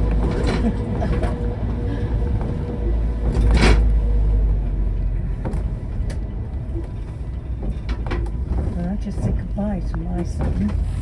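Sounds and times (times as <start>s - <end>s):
rough clatter: 0.0s - 4.2s, 5.4s - 11.0s
car cabin low rumble: 0.0s - 11.0s.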